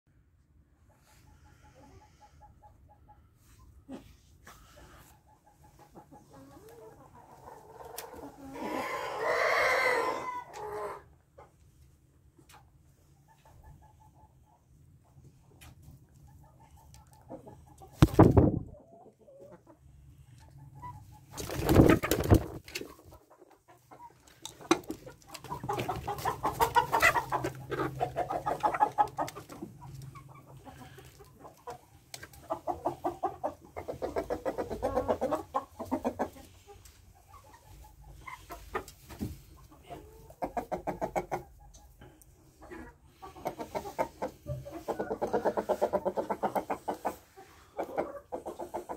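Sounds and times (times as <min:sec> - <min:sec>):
chickens clucking: 0:00.6 - 0:48.9.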